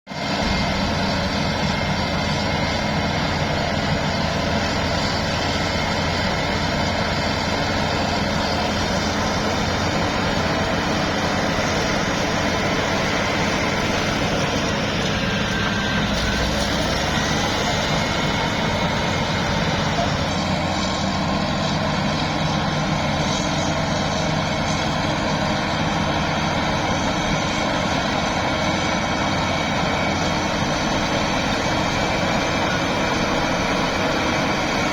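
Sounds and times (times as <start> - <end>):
diesel engine running under load: 0.1 - 34.9.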